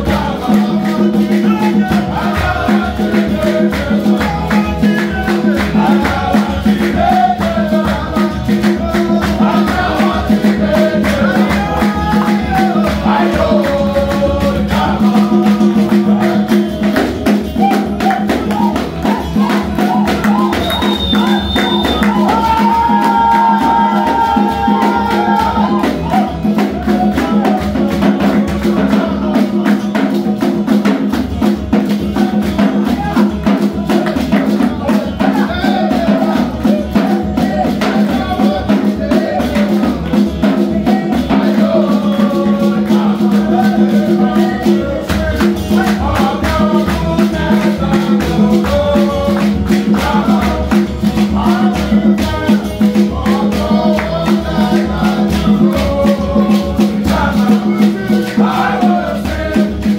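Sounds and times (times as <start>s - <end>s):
acoustic guitar: 0.0s - 59.9s
group singing: 0.0s - 59.9s
hands clapping a steady beat: 0.0s - 59.9s.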